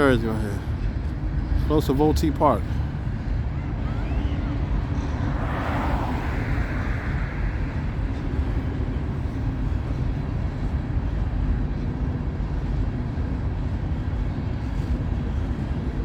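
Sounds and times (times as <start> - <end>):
freight train rolling past: 2.8 - 16.0.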